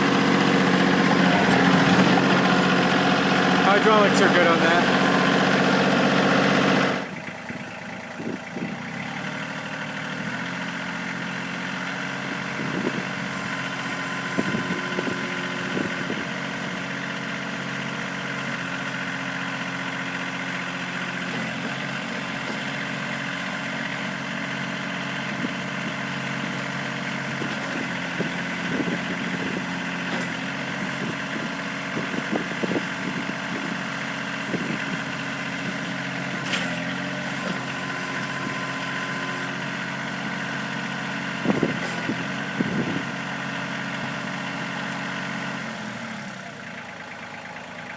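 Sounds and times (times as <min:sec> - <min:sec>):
tractor diesel engine idling: 0:00.0 - 0:47.9.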